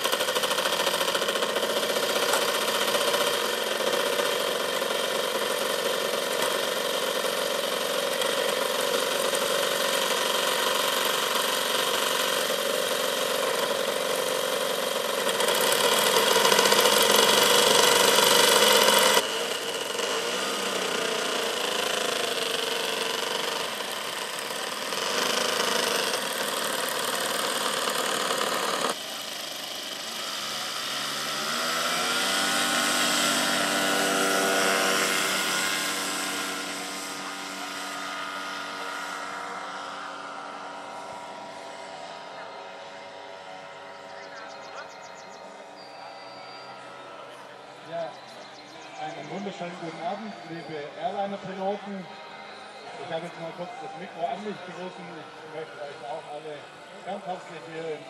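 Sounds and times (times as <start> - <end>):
model plane engines running: 0.0 - 58.0.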